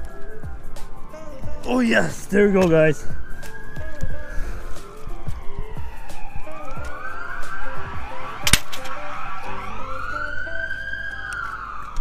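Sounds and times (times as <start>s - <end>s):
background music: 0.0s - 12.0s
siren wailing: 1.1s - 12.0s.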